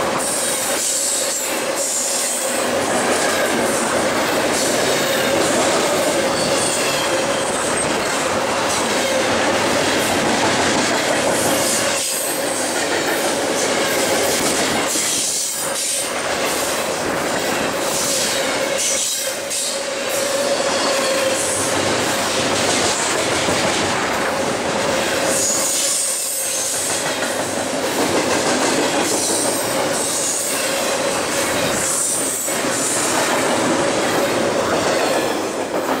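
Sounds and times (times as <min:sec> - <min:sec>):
clickety-clack over rail joints: 0:00.0 - 0:36.0
train wheels rumbling on rail: 0:00.0 - 0:36.0.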